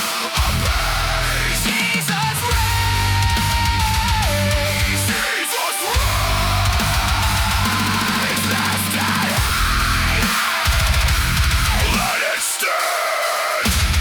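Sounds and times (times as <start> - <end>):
heavy metal music: 0.0 - 14.0.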